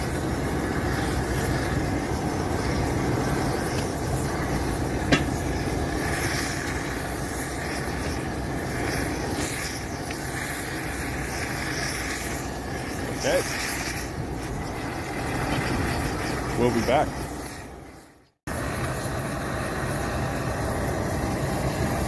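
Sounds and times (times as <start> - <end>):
gas torch burning: 0.0 - 22.0.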